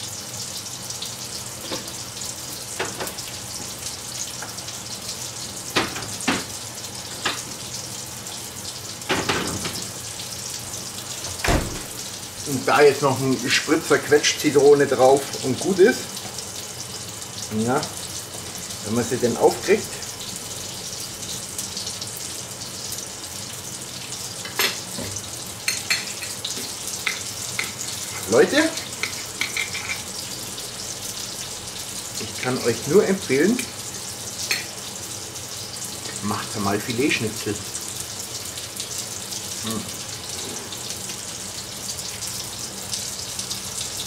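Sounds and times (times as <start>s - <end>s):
meat sizzling in a pan: 0.0s - 44.0s.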